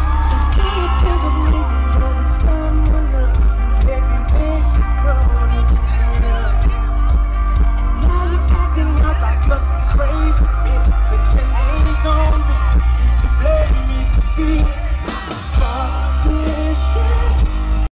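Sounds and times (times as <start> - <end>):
man singing into microphone: 0.0 - 7.2, 7.8 - 17.9
live pop band playing: 0.0 - 17.9.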